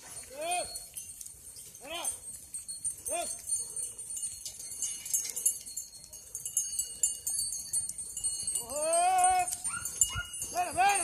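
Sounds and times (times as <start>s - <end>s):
reindeer bells jingling: 0.0s - 11.0s.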